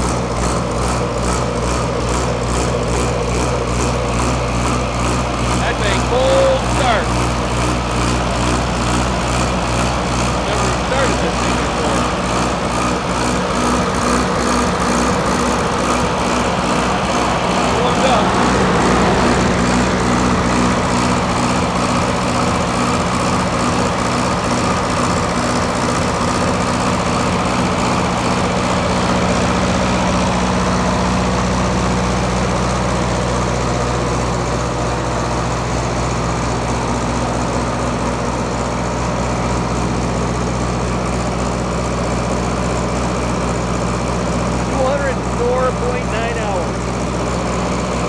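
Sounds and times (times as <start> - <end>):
diesel generator running: 0.0 - 48.0.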